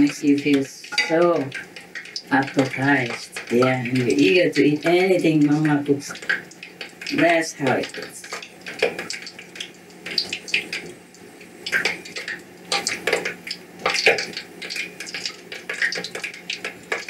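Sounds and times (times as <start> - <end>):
faint steady hum: 0.0 - 17.0
water dripping: 0.0 - 17.0.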